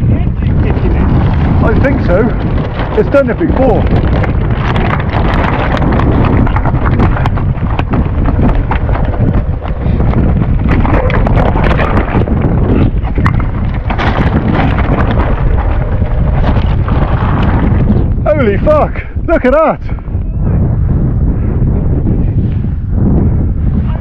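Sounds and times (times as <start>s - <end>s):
knocks and rattles: 0.0s - 20.1s
wind buffeting microphone: 0.0s - 24.0s.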